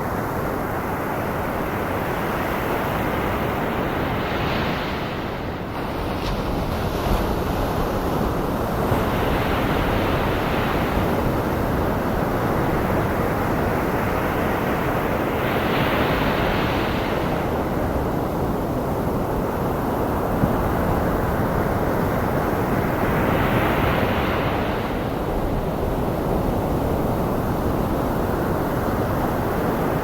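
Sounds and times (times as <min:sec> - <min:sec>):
ocean surf: 0:02.2 - 0:30.0.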